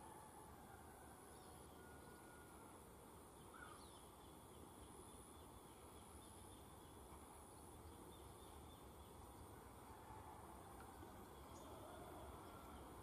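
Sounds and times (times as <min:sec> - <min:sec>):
bird chirp: 0:01.3 - 0:13.0.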